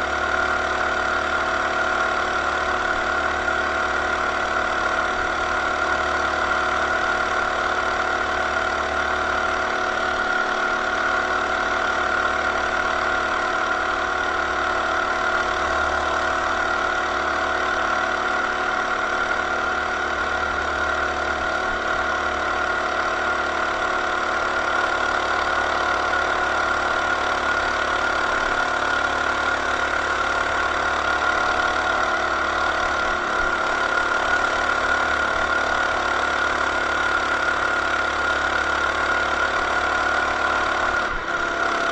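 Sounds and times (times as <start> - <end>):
mini bike engine running: 0.0 - 41.9.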